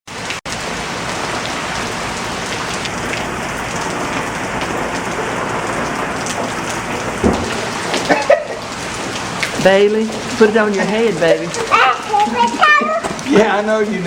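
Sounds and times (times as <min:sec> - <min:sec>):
steady rainfall: 0:00.1 - 0:14.0.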